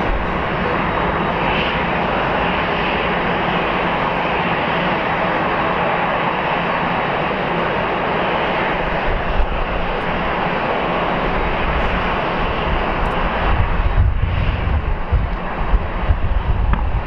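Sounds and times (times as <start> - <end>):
jet engine running: 0.0 - 17.0.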